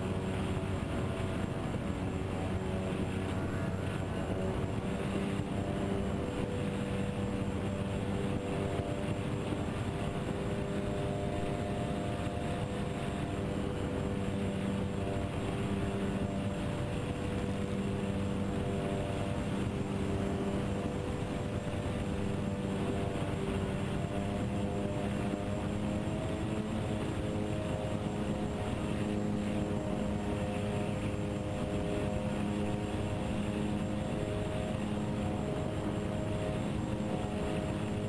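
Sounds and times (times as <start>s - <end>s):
electric plane motors droning: 0.0s - 38.0s
wind rumbling on microphone: 0.0s - 38.0s.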